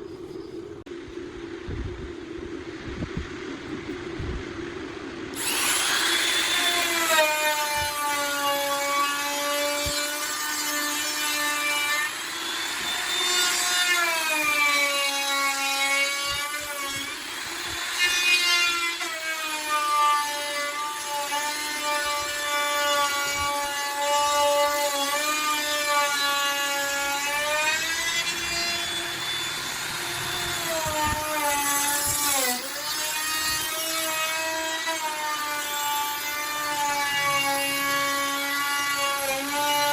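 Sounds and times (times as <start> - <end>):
electric router cutting wood: 5.4 - 39.9.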